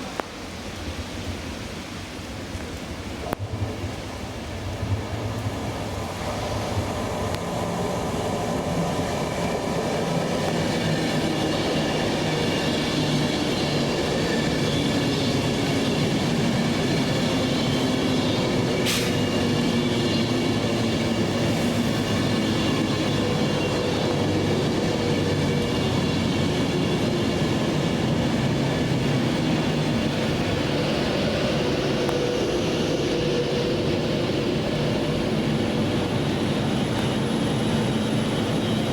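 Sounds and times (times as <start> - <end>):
train running: 3.2 - 38.9
train engine humming tones: 4.4 - 38.9.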